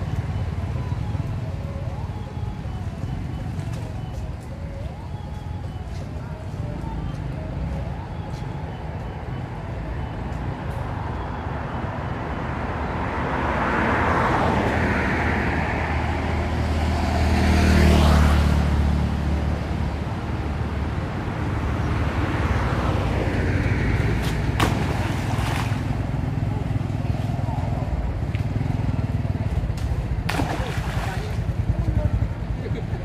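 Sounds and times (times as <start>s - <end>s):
vehicles passing on road: 0.0s - 33.0s.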